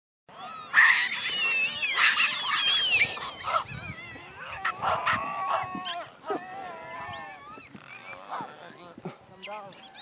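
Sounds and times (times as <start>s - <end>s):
monkeys squealing and screeching: 0.4s - 8.7s, 9.7s - 10.0s.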